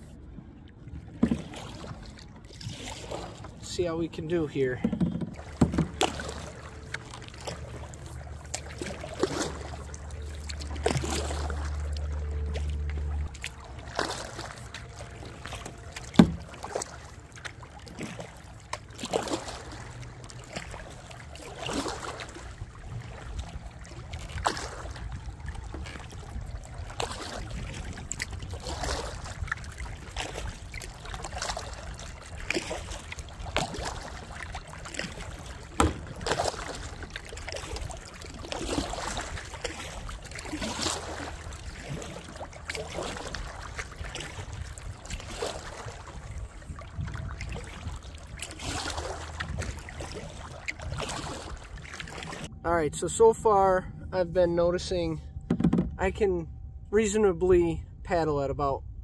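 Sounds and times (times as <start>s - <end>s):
paddle splashing in water: 0.0s - 52.5s, 54.8s - 56.2s.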